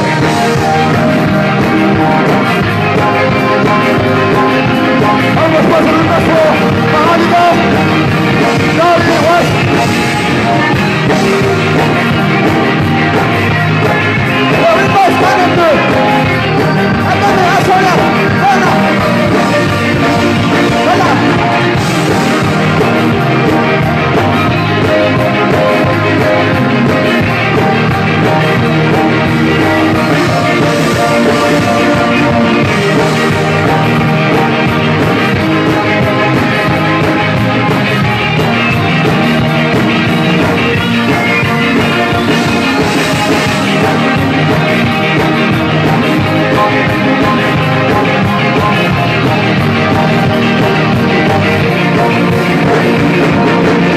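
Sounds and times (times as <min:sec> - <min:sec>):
drums: 0:00.0 - 0:53.9
electric guitar: 0:00.0 - 0:53.9
rock band playing: 0:00.0 - 0:53.9.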